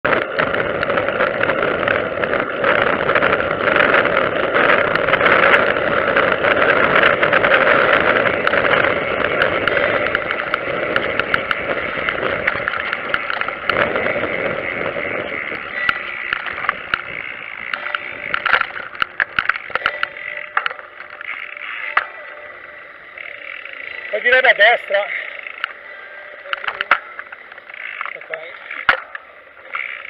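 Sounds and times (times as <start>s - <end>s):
road and wind noise: 0.0s - 30.0s
sharp clicks and rattles: 0.0s - 30.0s.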